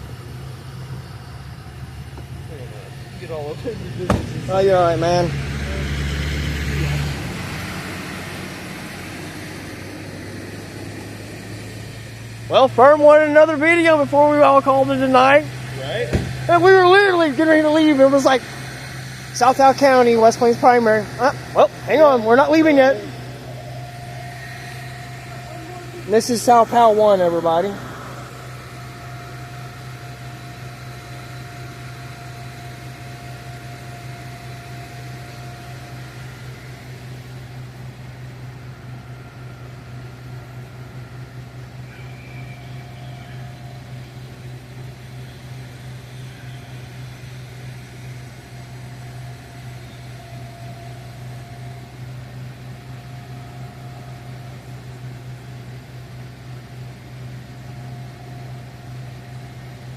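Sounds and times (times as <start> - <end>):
faint higher whine: 0.0 - 59.9
vehicle engine idling: 0.0 - 59.9.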